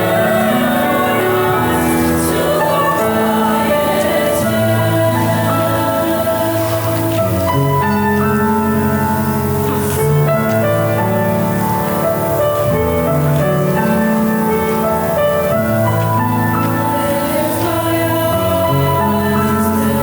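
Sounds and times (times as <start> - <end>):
choir singing: 0.0 - 20.0
piano chords: 0.0 - 20.0.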